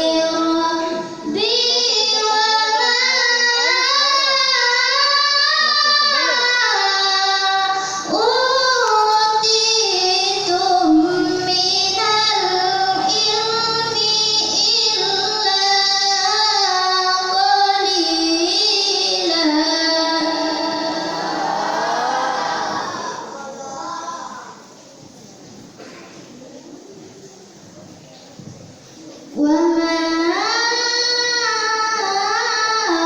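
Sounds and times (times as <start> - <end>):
girl chanting melodically: 0.0 - 24.6, 29.4 - 33.0.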